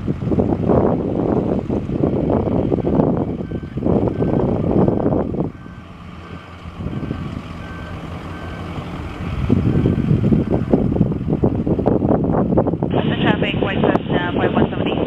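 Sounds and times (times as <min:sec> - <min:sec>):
distant piston engine humming: 0:00.0 - 0:15.0
wind buffeting microphone: 0:00.0 - 0:15.0.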